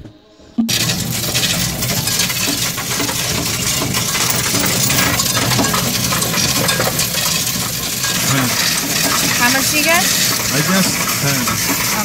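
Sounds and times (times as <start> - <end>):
coins clattering on metal tray: 0.7 - 12.0.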